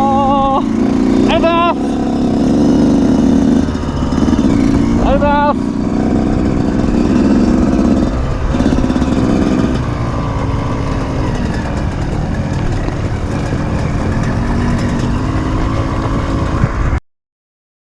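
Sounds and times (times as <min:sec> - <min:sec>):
off-road motorcycle engine running: 0:00.0 - 0:17.0.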